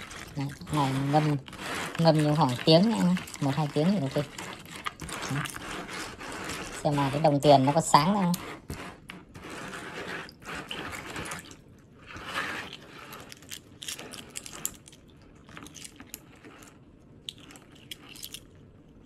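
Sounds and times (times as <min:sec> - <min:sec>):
water swishing in basin: 0:00.0 - 0:18.2.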